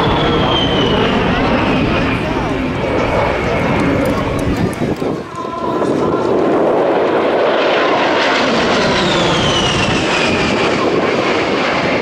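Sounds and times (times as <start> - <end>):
jet engine roar with whine: 0.0 - 12.0.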